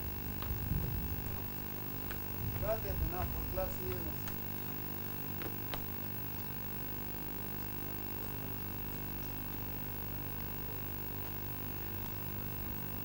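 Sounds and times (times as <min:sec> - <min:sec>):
electrical hum with static: 0:00.0 - 0:13.0
thin high whine: 0:00.0 - 0:13.0.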